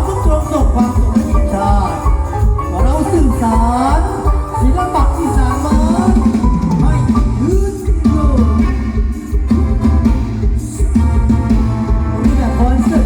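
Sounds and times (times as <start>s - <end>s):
drum kit and bass beat: 0.0s - 13.0s
sliding melody line: 0.0s - 13.0s.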